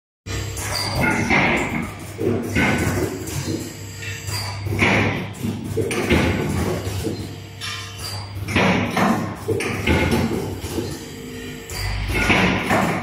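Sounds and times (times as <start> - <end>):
machine mechanisms clacking: 0.3 - 13.0.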